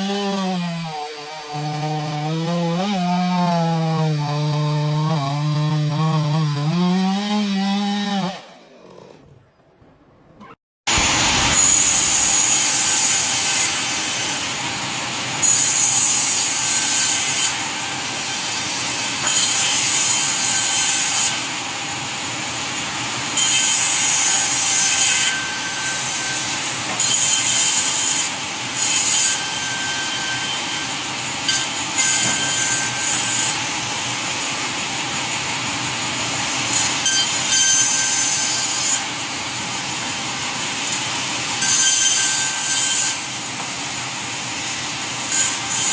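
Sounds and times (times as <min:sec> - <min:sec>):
sawmill saw cutting wood: 0:00.0 - 0:08.6, 0:10.9 - 0:45.9.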